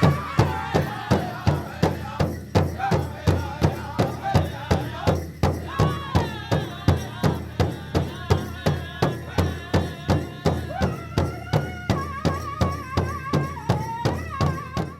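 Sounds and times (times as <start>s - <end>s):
steady drum beat: 0.0s - 14.9s.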